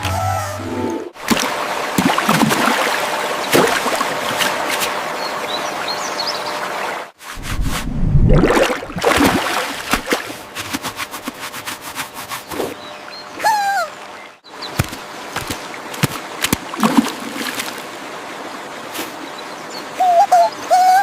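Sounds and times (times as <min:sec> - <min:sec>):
stream water running: 0:01.1 - 0:21.0.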